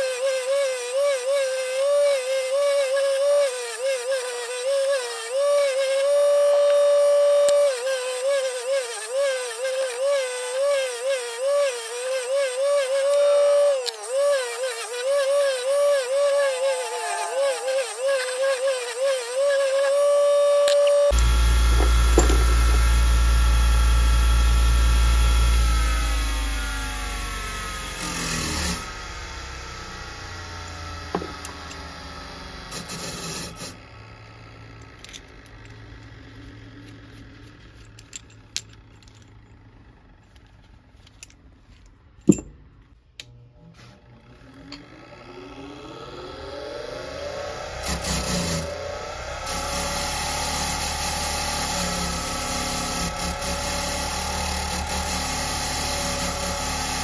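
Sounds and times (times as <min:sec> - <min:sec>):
bench grinder humming and whining: 0:00.0 - 0:38.1, 0:43.2 - 0:57.0.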